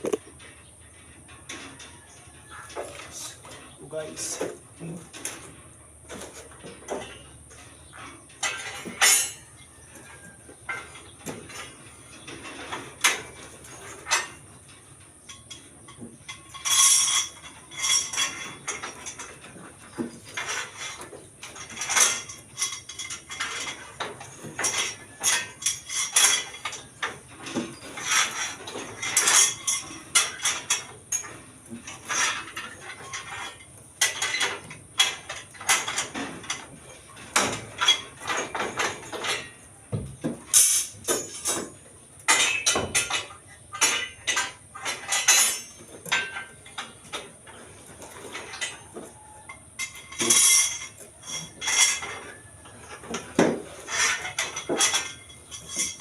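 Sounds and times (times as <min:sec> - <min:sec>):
steel bar clinking and clanking: 0:01.2 - 0:39.6, 0:40.2 - 0:56.0.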